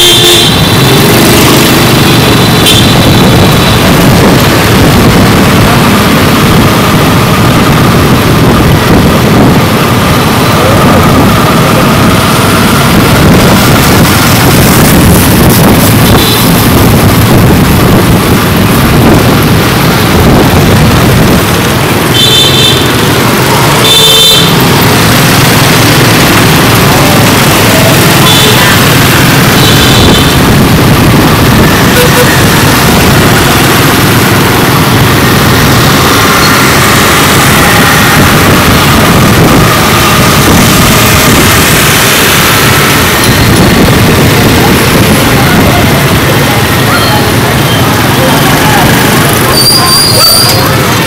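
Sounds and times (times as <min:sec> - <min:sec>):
motorcycle engine running: 0:00.0 - 0:51.0
scooters and motorbikes in traffic: 0:00.0 - 0:51.0
wind buffeting microphone: 0:00.8 - 0:22.1, 0:24.8 - 0:46.8.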